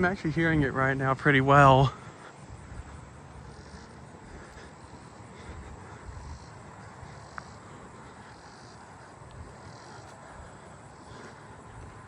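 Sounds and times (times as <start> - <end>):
distant cicada buzzing: 0.0 - 12.0
low outdoor rumble: 0.0 - 12.0.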